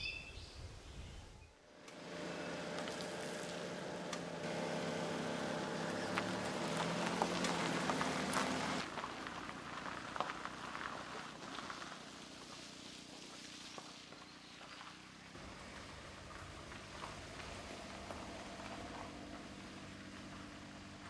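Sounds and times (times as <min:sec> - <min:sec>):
engine hum: 0:01.5 - 0:21.0
rain patter: 0:02.6 - 0:14.2, 0:15.0 - 0:21.0.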